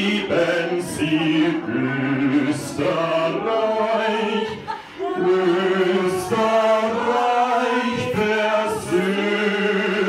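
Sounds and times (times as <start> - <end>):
group of voices singing: 0.0 - 10.0.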